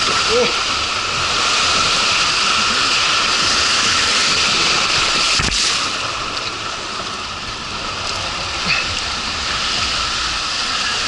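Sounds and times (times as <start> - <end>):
water rushing down a slide: 0.0 - 11.0.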